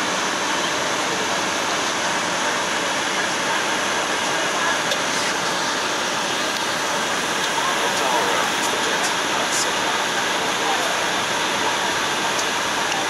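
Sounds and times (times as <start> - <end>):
jet cockpit airflow and engine noise: 0.0 - 13.0.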